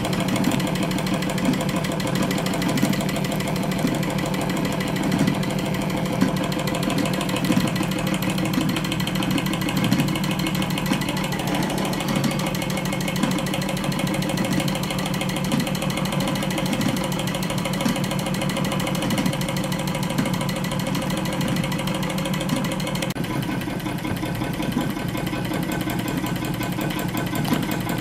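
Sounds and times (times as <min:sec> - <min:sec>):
hot-air engine mechanical clatter: 0:00.0 - 0:28.0.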